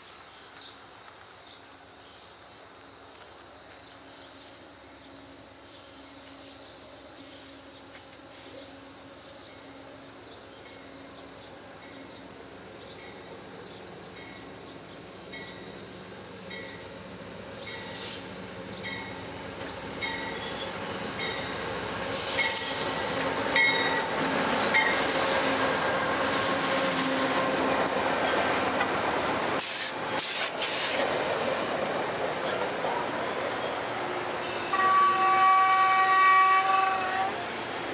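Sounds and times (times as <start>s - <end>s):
diesel locomotive approaching: 0.0s - 37.9s
train wheels on rails: 0.0s - 37.9s.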